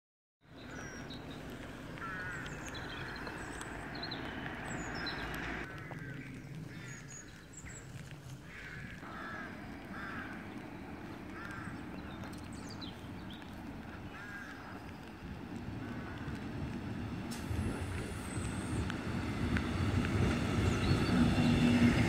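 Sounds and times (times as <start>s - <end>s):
birds honking calls: 0.6s - 22.0s.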